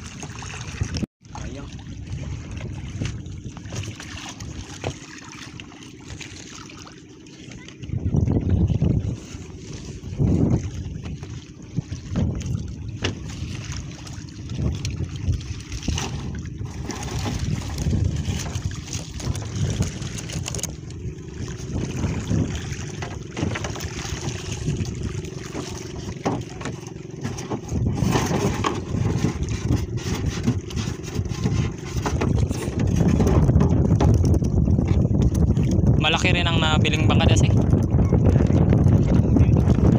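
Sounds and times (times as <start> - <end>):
wind buffeting microphone: 0.0 - 6.4, 7.1 - 39.9
water slapping wooden boat: 0.0 - 39.9.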